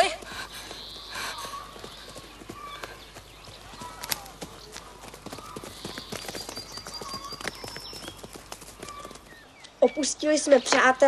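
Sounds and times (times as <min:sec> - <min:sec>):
faint distant voices: 0:00.1 - 0:10.7.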